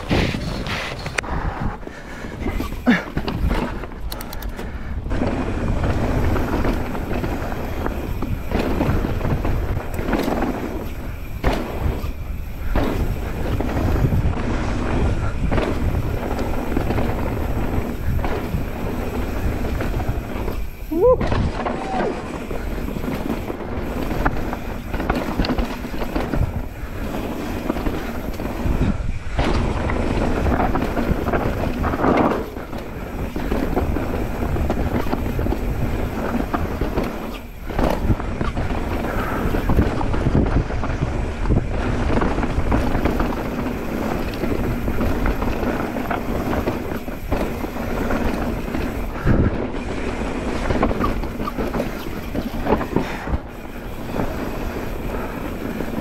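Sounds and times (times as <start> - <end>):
bike tyres rolling over dirt: 0.0 - 56.0
wind buffeting microphone: 0.0 - 56.0
bike knocks and rattles: 2.2 - 56.0.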